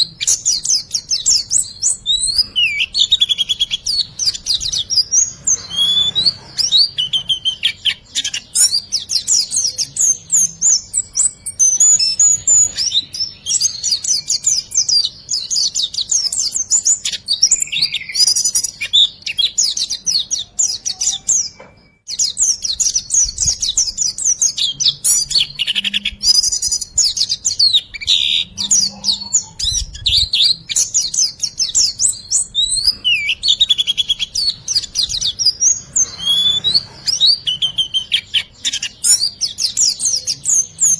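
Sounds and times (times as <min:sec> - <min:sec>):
songbird chattering song: 0:00.0 - 0:40.9.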